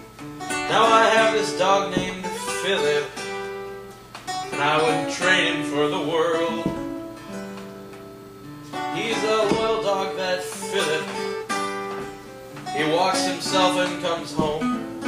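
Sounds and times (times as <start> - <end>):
acoustic guitars strumming chords: 0.0 - 15.0.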